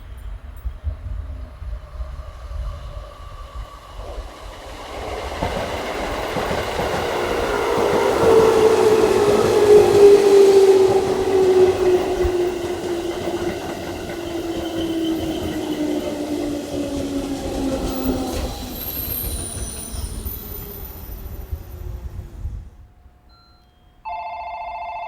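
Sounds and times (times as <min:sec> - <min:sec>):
electric train rumble: 0:00.0 - 0:23.2.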